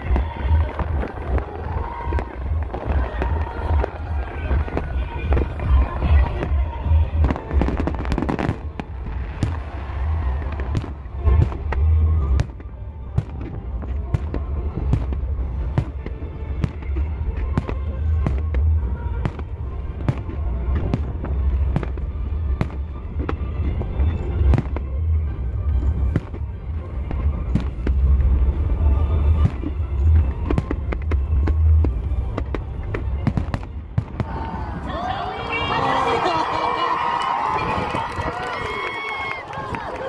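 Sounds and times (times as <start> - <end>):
deep continuous rumble: 0.0 - 40.0
music playing: 0.0 - 40.0.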